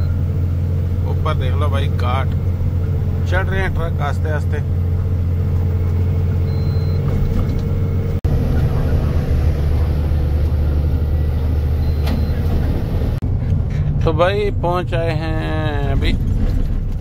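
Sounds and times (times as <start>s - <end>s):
truck diesel engine and road noise: 0.0s - 17.0s.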